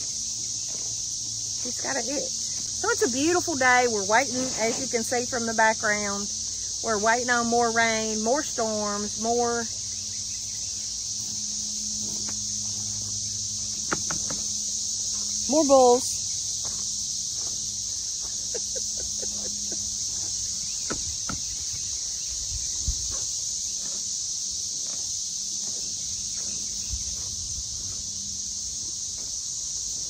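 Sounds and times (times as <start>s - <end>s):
cicadas droning: 0.0s - 30.0s.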